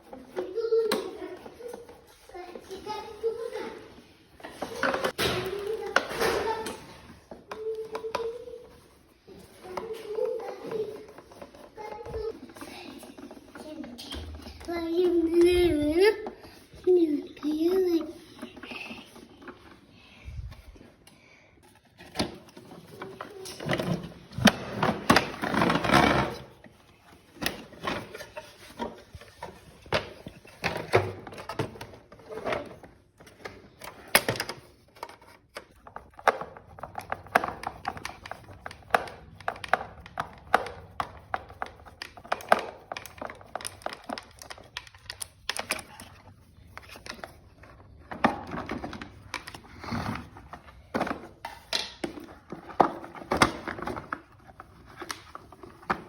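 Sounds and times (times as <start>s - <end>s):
plastic parts clicking and rattling: 2.8s - 20.8s, 21.6s - 56.0s.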